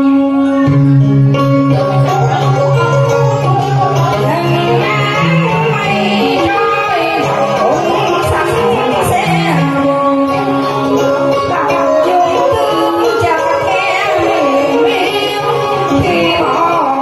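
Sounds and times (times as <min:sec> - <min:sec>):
karaoke backing track: 0:00.0 - 0:17.0
woman singing into a microphone: 0:03.2 - 0:17.0.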